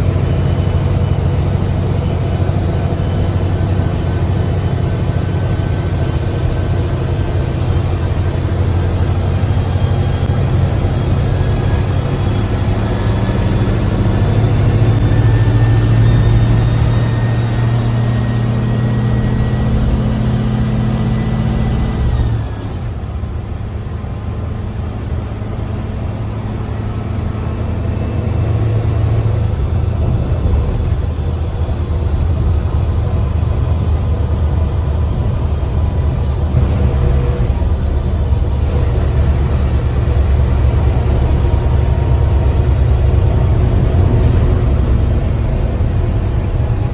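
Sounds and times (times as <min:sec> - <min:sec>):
bus diesel engine pulling: 0:00.0 - 0:46.9.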